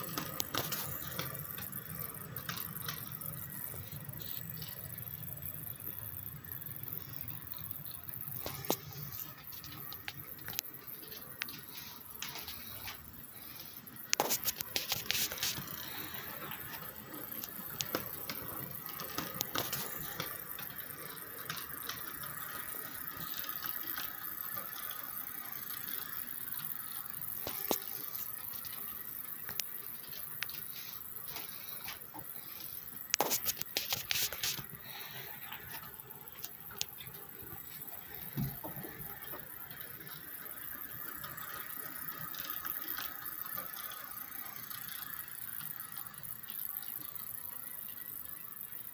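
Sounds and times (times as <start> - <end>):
model train running on track: 0.0 - 48.9
sharp clicks and rattles: 0.0 - 48.9.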